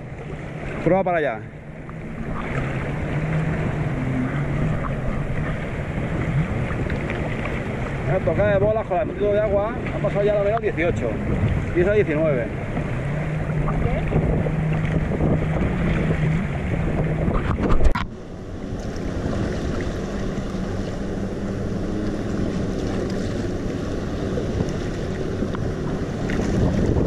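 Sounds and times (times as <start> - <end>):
jet ski engine drone: 0.0 - 27.0
sea water sloshing: 0.0 - 27.0
wind on microphone: 1.9 - 27.0.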